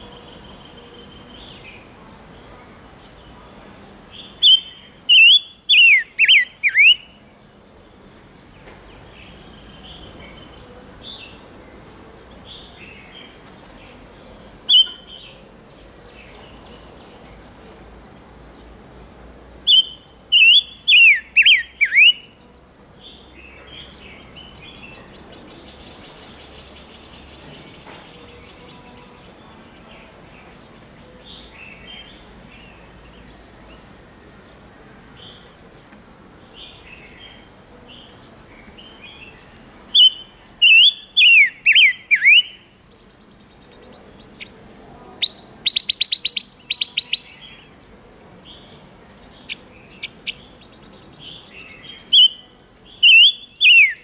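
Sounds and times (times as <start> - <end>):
soft bird chirps: 0.0 - 54.0.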